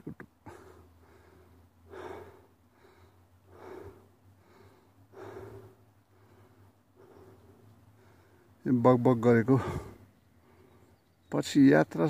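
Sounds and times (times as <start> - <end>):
person breathing heavily: 0.4 - 8.6, 9.5 - 11.0.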